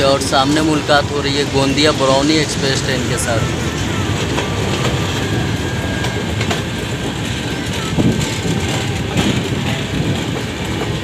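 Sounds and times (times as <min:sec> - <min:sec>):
train wheels rumbling: 0:00.0 - 0:11.0
wheels clacking over rail joints: 0:00.0 - 0:11.0.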